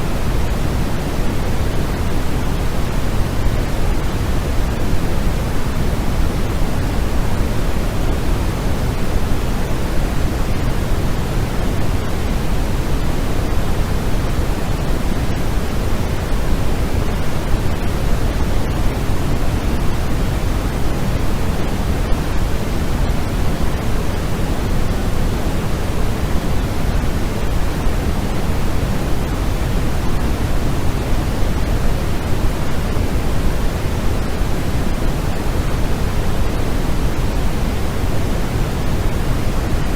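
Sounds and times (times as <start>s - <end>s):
deep white noise hiss: 0.0s - 39.9s.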